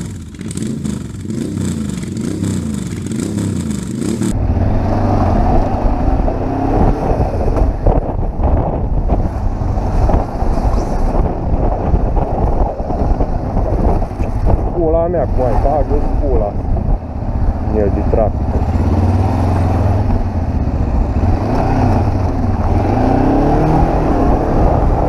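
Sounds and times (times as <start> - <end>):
motorcycle engine running: 0.0 - 25.0
wind buffeting microphone: 4.3 - 25.0.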